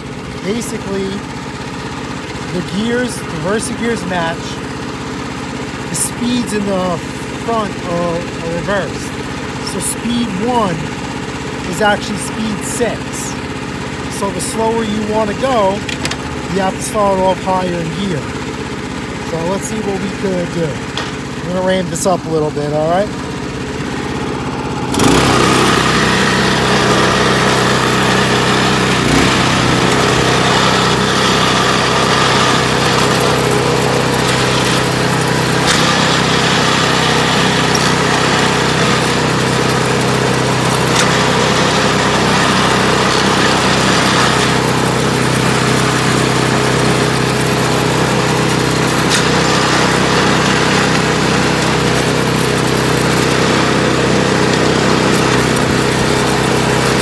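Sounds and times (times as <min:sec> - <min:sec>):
single-cylinder engine running at high speed: 0:00.0 - 0:57.0.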